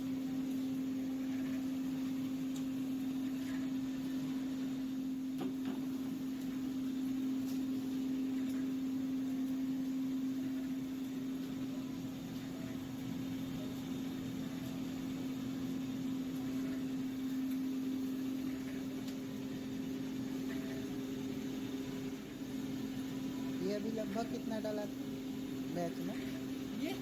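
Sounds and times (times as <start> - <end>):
machine humming: 0.0 - 27.0.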